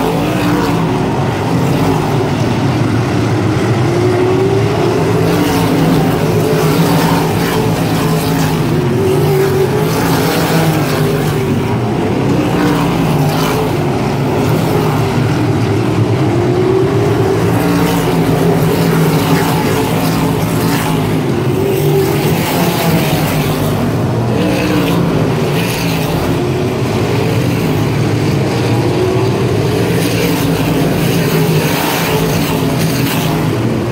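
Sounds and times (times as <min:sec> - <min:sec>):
racing car engines: 0:00.0 - 0:33.9.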